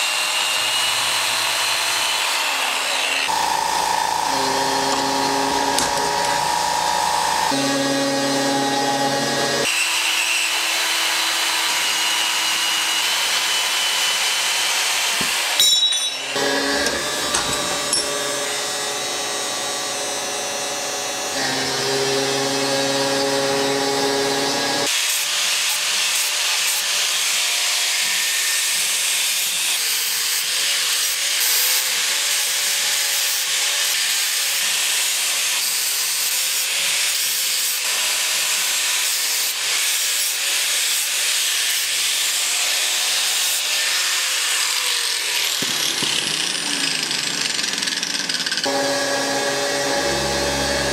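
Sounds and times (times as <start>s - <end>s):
angle grinder grinding steel: 0.0s - 50.9s.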